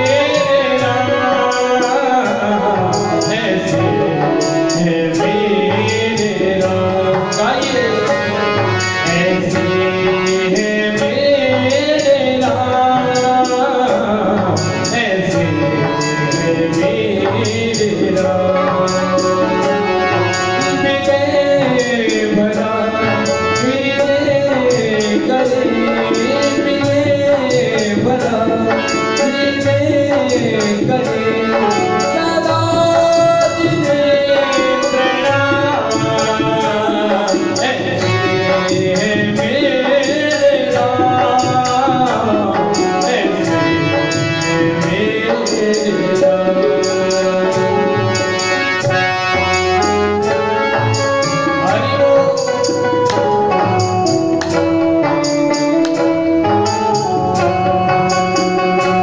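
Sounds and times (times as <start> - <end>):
man singing into a microphone: 0.0 - 59.0
tabla beat: 0.0 - 59.0.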